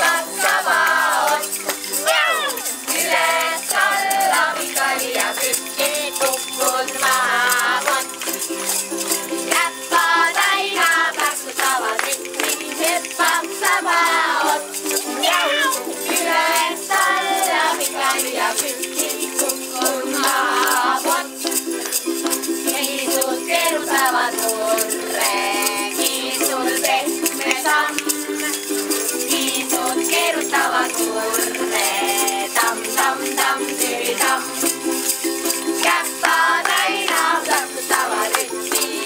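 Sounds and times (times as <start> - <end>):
person singing: 0.0 - 8.4, 9.4 - 21.5, 22.7 - 34.7, 35.8 - 39.0
shaker rhythm: 0.0 - 39.0.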